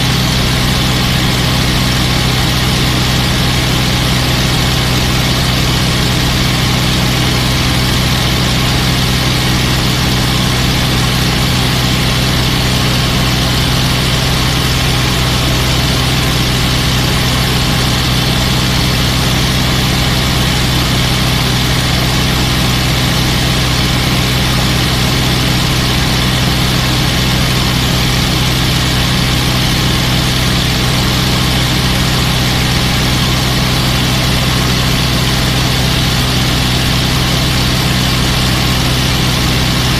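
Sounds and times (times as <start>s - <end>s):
aircraft engine droning: 0.0s - 39.9s.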